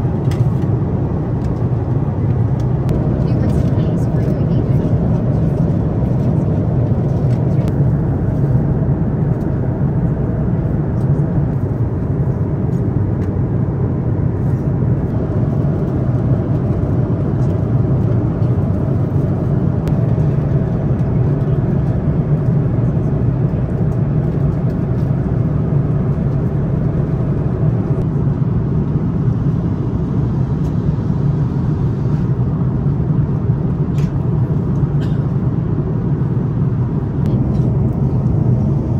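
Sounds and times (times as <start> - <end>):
airliner cabin drone: 0.0 - 38.9.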